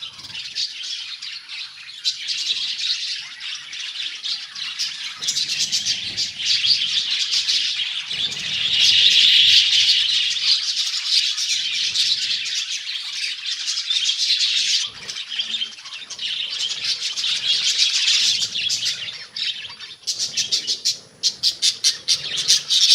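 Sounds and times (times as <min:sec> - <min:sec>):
budgerigars chattering and chirping: 0:00.0 - 0:22.9.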